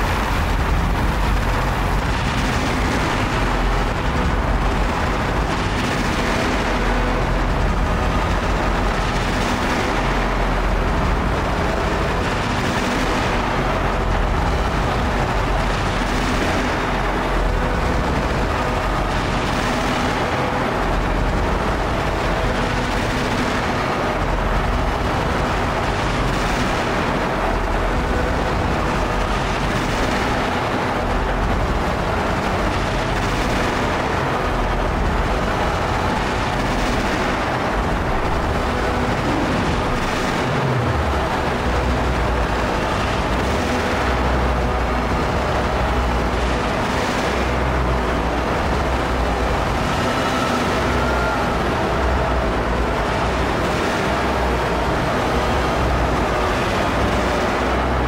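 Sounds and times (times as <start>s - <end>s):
distorted industrial noise drone: 0.0s - 58.0s.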